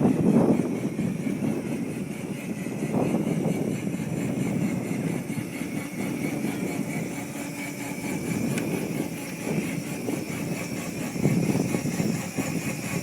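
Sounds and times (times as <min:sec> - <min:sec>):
small atv engine running: 0:00.0 - 0:13.0.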